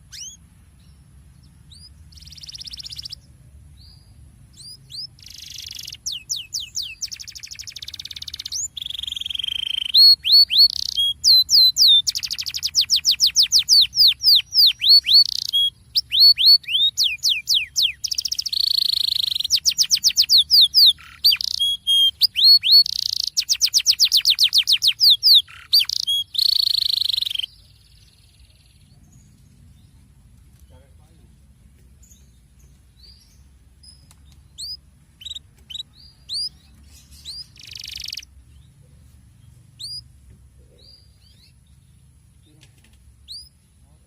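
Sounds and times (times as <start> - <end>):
canary singing trills: 0.0 - 31.2, 32.0 - 42.5, 43.2 - 44.0.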